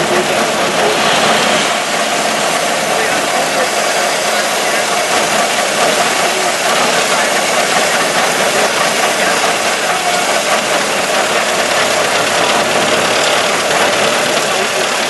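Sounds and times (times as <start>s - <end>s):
car engine running: 0.0s - 15.0s
rushing road noise: 0.0s - 15.0s.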